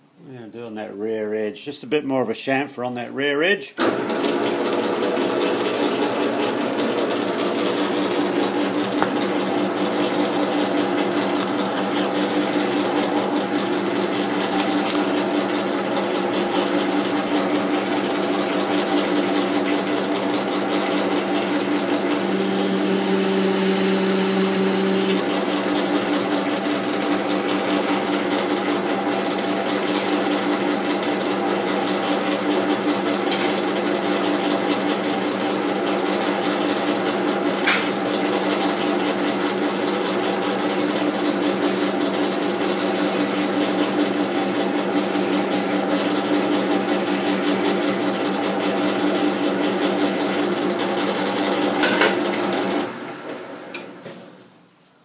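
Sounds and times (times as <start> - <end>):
lathe humming and whining: 3.8 - 53.5.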